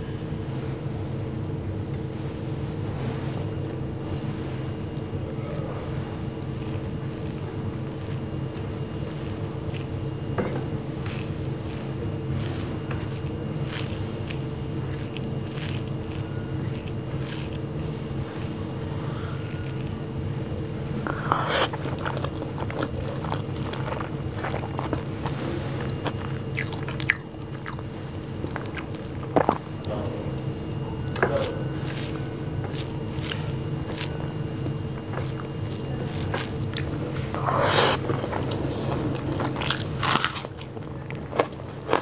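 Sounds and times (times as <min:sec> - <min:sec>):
steady low hum: 0:00.0 - 0:42.0
close chewing: 0:04.6 - 0:42.0.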